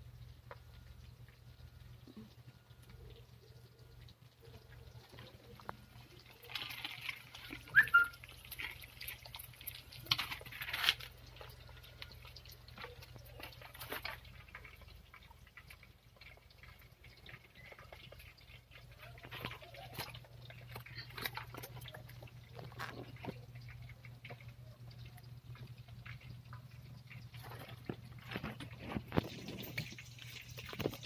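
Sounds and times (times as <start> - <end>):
chicken frying in hot oil: 0.0 - 31.0.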